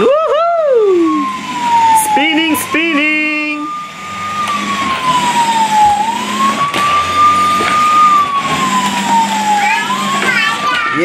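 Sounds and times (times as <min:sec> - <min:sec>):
electronic toy siren wailing: 0:00.0 - 0:11.0
steady background whir: 0:00.6 - 0:11.0.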